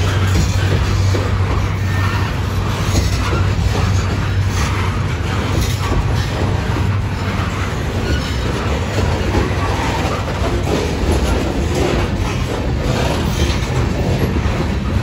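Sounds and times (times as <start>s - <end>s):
train wheels rumbling on rail: 0.0s - 15.0s
wheels clicking over rail joints: 0.0s - 15.0s.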